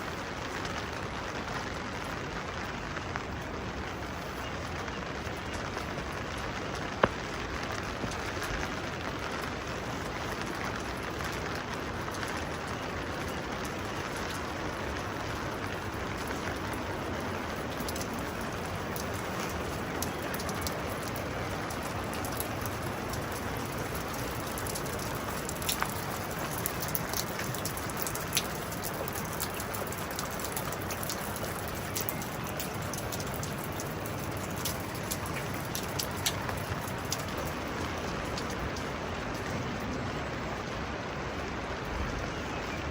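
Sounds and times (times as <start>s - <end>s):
steady rain: 0.0s - 42.9s.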